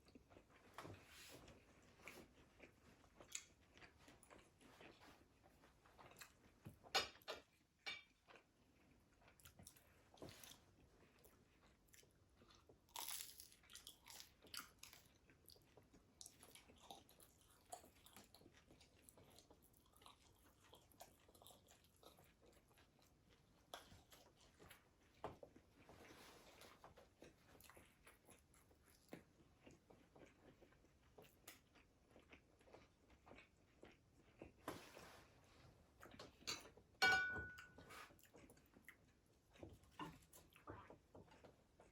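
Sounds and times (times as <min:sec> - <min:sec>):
crunchy chewing of fried food: 0:00.0 - 0:37.0, 0:37.8 - 0:41.9.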